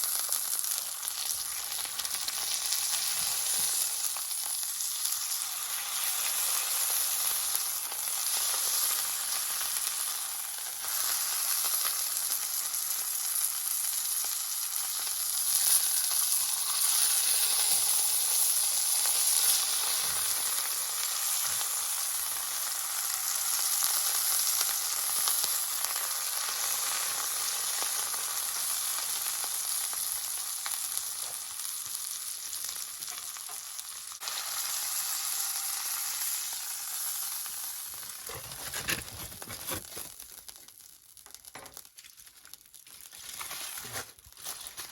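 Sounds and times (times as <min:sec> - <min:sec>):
food sizzling in a skillet: 0:00.0 - 0:44.9.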